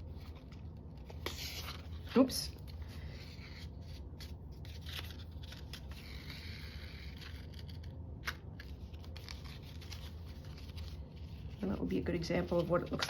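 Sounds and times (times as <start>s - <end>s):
paper and thread rustling: 0.0s - 13.0s.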